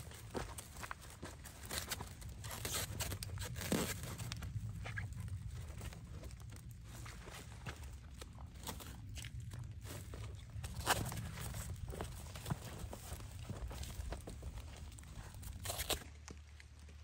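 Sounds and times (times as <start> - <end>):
plastic film crinkling: 1.5 - 16.8.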